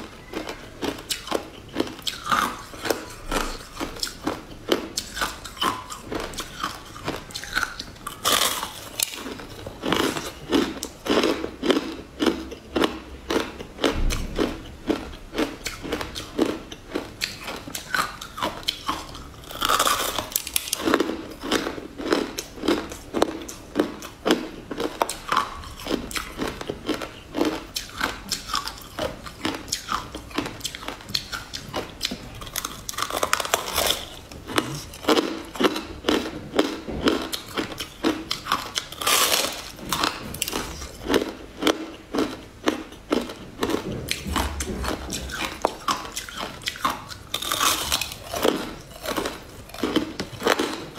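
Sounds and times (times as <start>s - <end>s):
crunching hard sweet: 0.0s - 50.9s.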